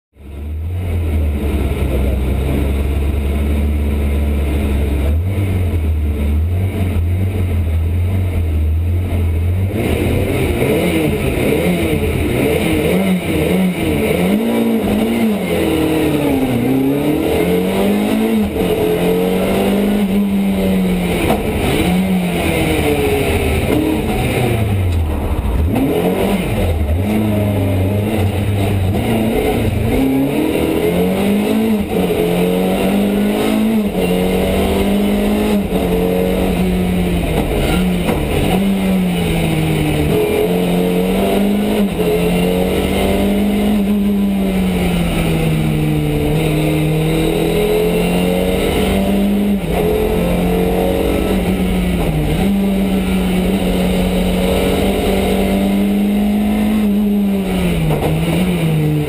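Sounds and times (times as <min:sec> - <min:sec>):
car engine revving: 0:00.2 - 0:59.0.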